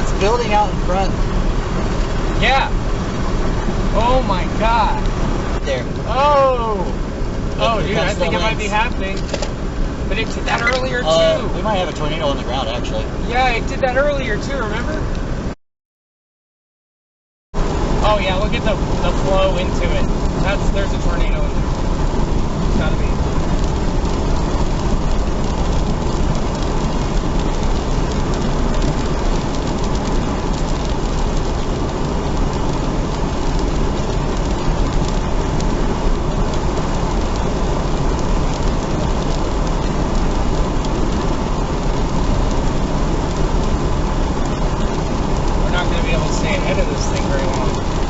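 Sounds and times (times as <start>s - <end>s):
rain on a car: 0.0s - 15.5s, 17.6s - 48.0s
road noise rumble: 0.0s - 15.6s, 17.6s - 48.0s.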